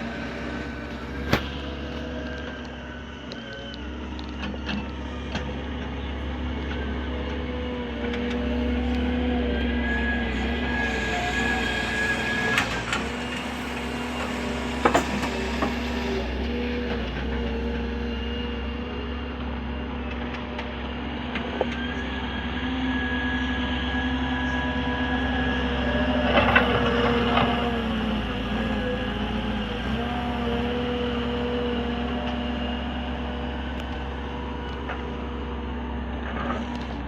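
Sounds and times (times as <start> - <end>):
heavy machinery engine running: 0.0 - 37.0
held whine: 0.0 - 37.0.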